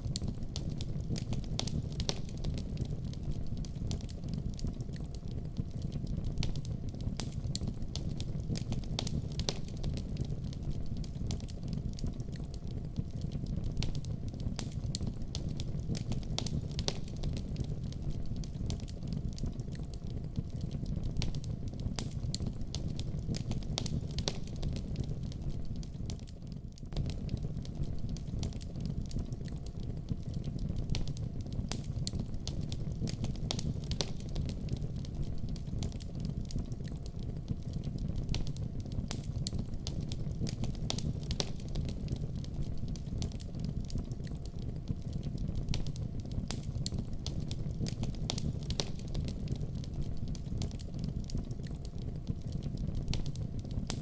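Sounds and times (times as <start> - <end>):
fire crackling and popping: 0.0 - 54.0
fire flames rumbling: 0.0 - 54.0.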